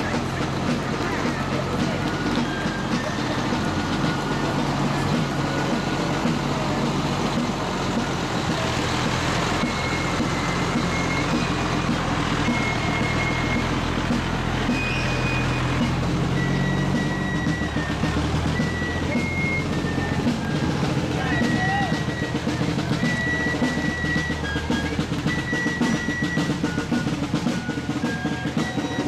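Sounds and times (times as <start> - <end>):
fire truck diesel engine drone: 0.0 - 29.0.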